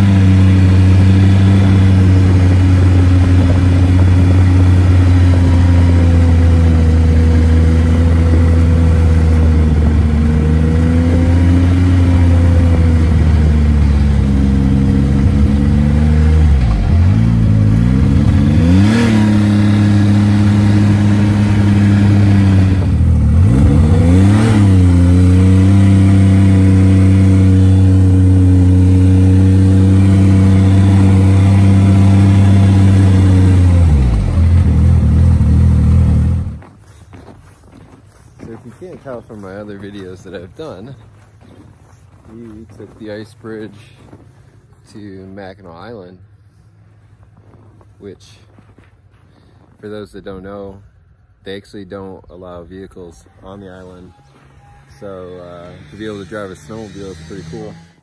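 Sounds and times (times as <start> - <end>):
snowmobile engine running: 0.0 - 37.1, 38.5 - 44.2, 52.4 - 58.0.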